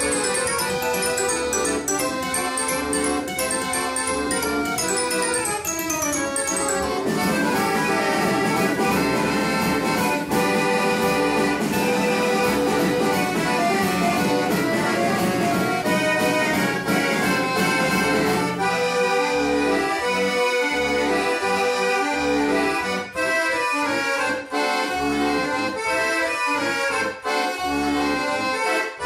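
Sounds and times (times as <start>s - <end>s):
accordion bass notes: 0.0s - 29.0s
accordion playing a tune: 0.0s - 29.0s.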